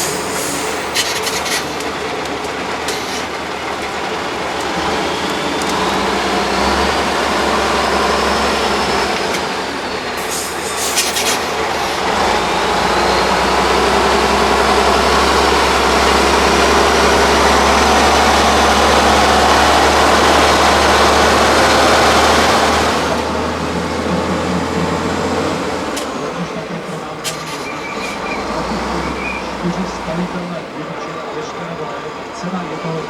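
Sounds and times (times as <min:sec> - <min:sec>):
truck diesel engine running: 0:00.0 - 0:33.0.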